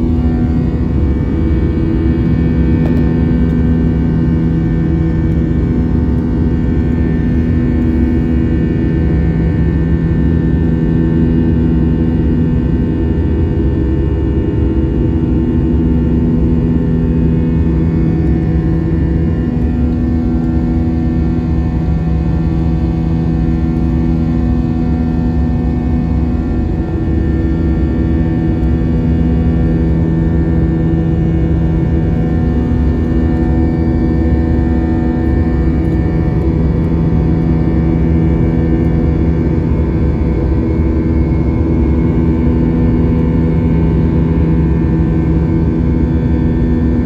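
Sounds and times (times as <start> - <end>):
jet engine roar: 0.0 - 12.4, 13.1 - 47.0
low drone: 0.0 - 47.0.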